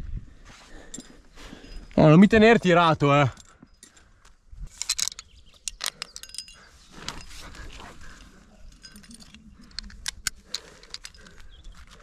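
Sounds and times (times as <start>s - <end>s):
carabiners clinking: 0.8s - 12.0s.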